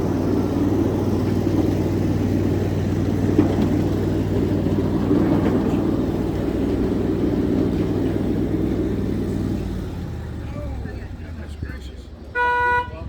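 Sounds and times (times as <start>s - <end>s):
miniature train rumbling on track: 0.0s - 13.0s.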